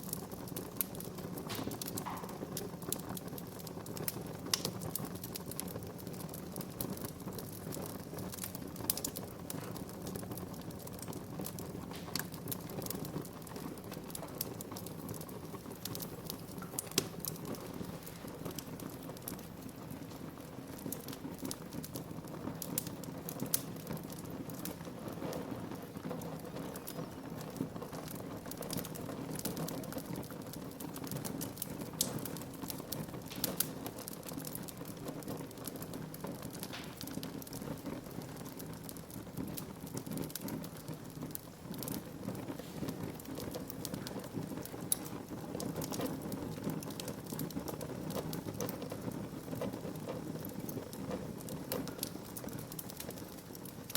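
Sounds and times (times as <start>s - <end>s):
fire crackling and popping: 0.0s - 53.9s
wood fire flames rushing: 0.0s - 53.9s.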